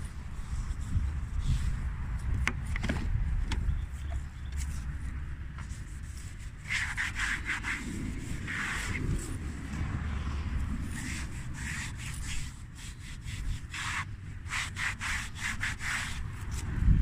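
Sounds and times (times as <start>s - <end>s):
sponge scrubbing car bodywork: 0.0s - 2.3s, 3.8s - 16.8s.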